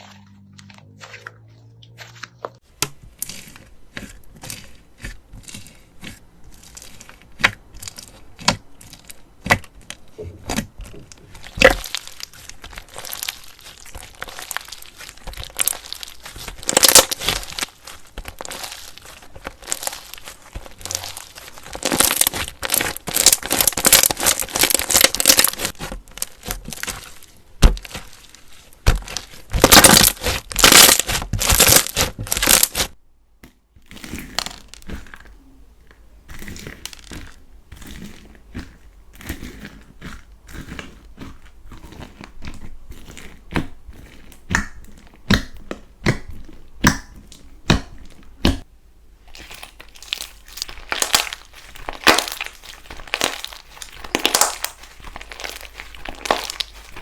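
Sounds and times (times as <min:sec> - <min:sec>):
slime crackling when squeezed: 0:03.1 - 0:33.0, 0:36.3 - 0:57.0.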